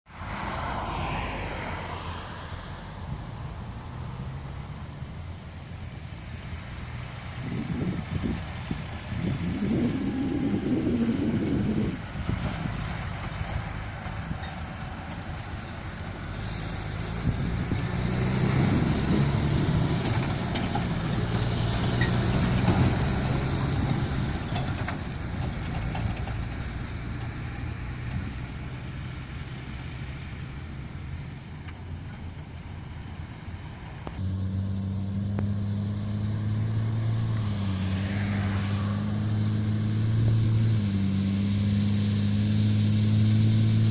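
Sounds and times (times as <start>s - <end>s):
steady engine hum: 0.1s - 43.9s
truck diesel engine under load: 0.1s - 43.9s.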